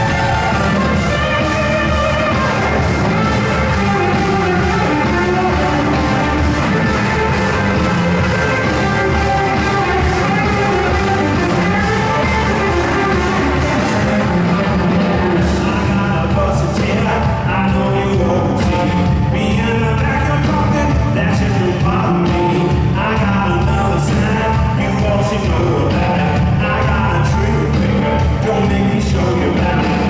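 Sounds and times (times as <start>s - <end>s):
bass: 0.0s - 30.0s
drums: 0.0s - 30.0s
electric guitars: 0.0s - 30.0s
keyboards: 0.0s - 30.0s.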